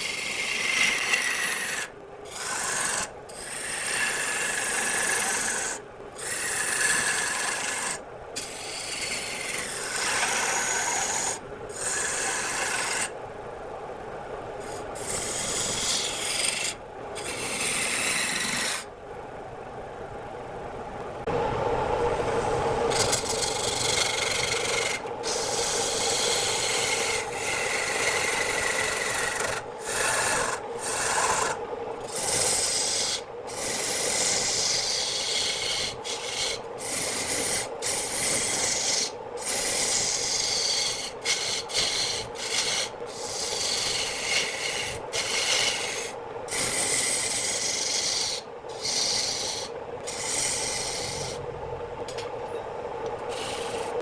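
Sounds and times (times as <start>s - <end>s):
turning tool scraping wood: 0.0s - 13.1s, 14.6s - 18.9s, 22.9s - 51.4s, 53.3s - 54.0s
lathe humming: 0.0s - 13.3s, 14.5s - 18.9s, 21.2s - 54.0s.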